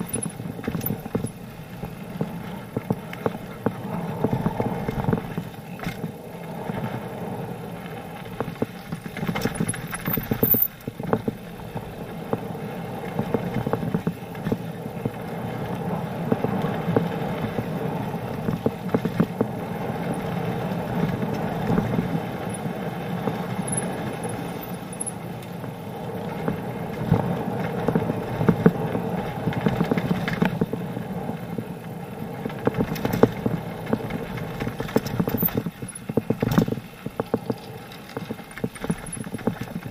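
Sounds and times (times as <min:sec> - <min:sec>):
bike clattering over bumps: 0:00.0 - 0:39.9
bike tyres crunching over gravel: 0:00.0 - 0:39.9.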